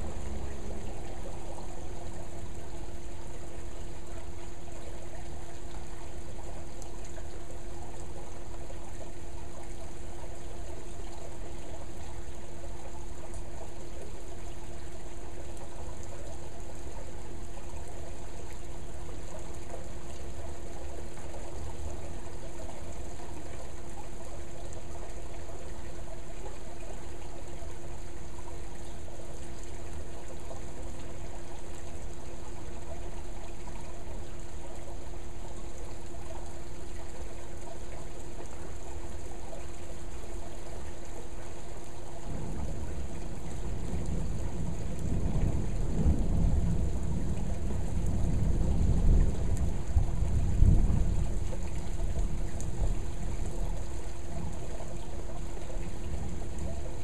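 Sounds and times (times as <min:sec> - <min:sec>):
low hum: 0:00.0 - 0:41.2, 0:41.8 - 0:57.0
water trickling and pouring: 0:00.0 - 0:57.0.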